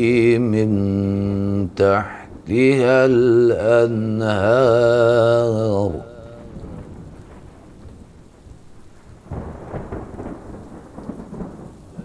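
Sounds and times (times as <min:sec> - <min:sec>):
steady rain: 0:00.0 - 0:12.0
thunder rumbling: 0:00.0 - 0:12.0.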